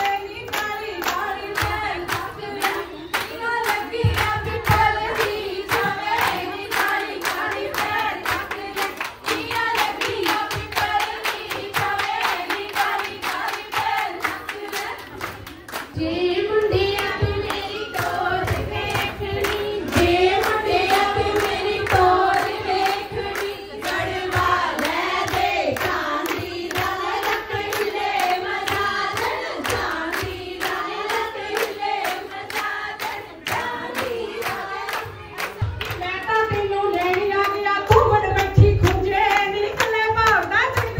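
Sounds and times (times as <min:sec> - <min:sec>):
rhythmic hand clapping: 0:00.0 - 0:40.9
women singing: 0:00.0 - 0:40.9.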